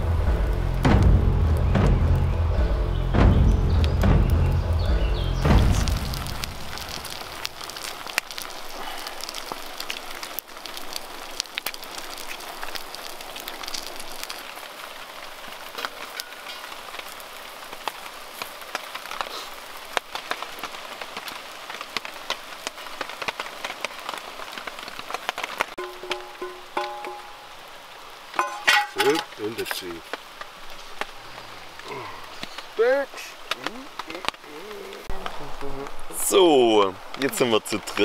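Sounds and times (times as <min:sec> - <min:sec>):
rain pattering: 0:00.0 - 0:38.0.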